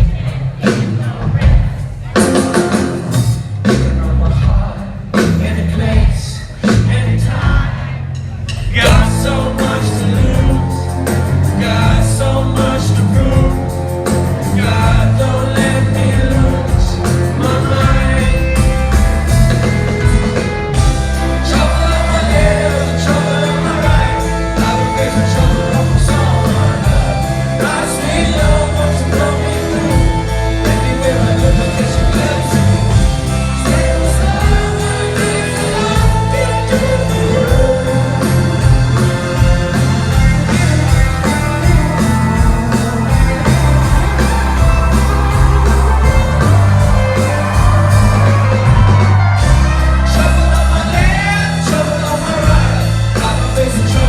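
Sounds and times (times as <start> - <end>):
lead singer singing: 0.0 - 54.0
rock band playing live: 0.0 - 54.0.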